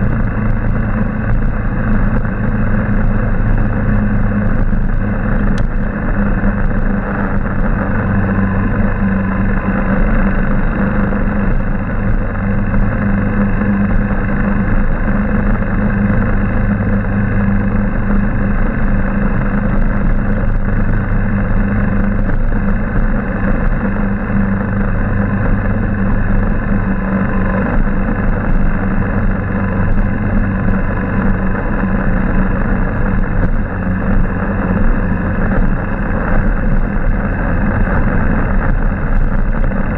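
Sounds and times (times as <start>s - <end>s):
motorcycle engine humming: 0.0s - 39.9s
wind and road noise: 0.0s - 39.9s.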